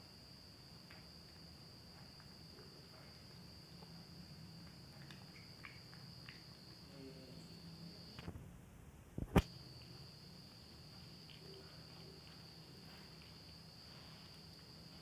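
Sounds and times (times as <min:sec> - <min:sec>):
high-pitched insect trill: 0:00.0 - 0:08.2, 0:09.4 - 0:15.0.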